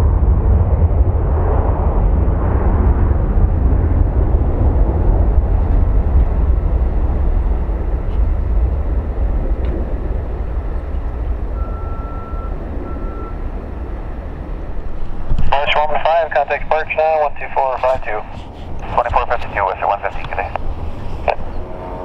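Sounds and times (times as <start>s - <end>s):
jet engines at takeoff rumbling: 0.0s - 22.0s.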